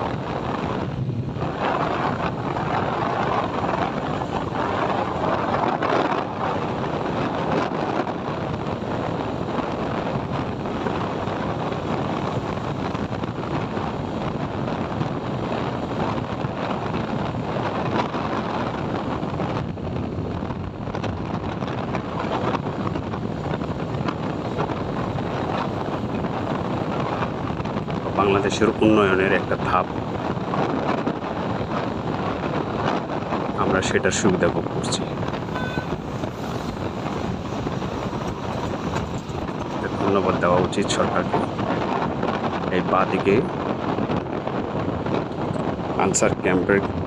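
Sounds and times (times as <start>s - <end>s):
motorcycle riding on road: 0.0s - 47.0s
wind rushing over microphone: 0.0s - 47.0s.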